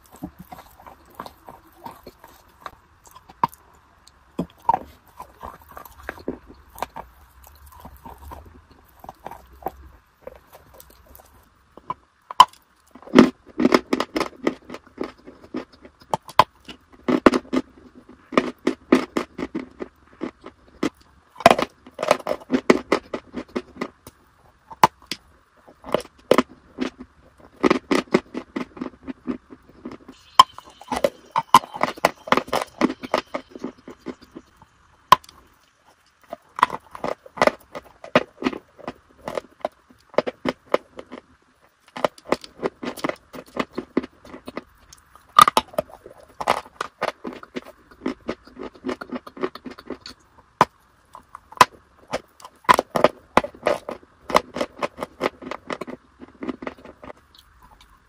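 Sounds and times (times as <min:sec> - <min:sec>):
crunching and chewing: 0:00.0 - 0:58.0.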